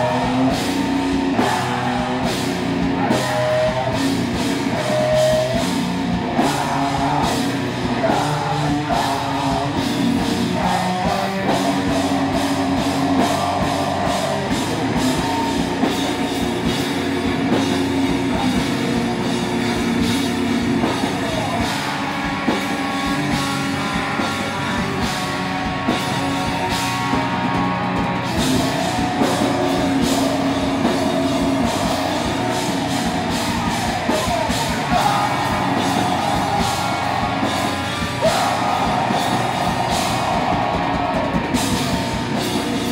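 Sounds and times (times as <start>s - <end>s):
distorted electric guitars: 0.0s - 42.9s
drum kit beat: 0.0s - 42.9s
electric bass: 0.0s - 42.9s.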